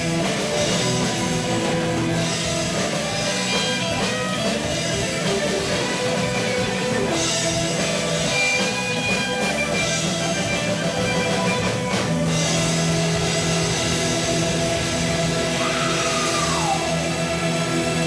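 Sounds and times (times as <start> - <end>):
bass guitar: 0.0 - 18.0
drums: 0.0 - 18.0
electric guitar: 0.0 - 18.0.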